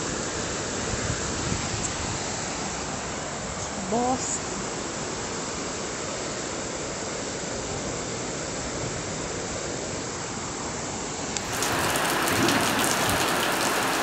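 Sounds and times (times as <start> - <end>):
floodwater pouring down street: 0.0 - 14.0
heavy rain: 0.0 - 14.0.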